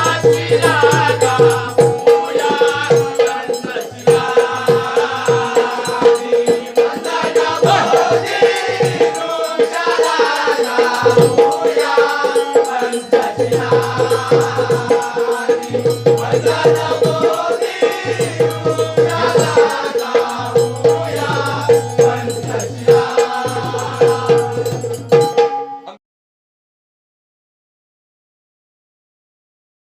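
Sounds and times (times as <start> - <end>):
group singing: 0.0 - 25.3.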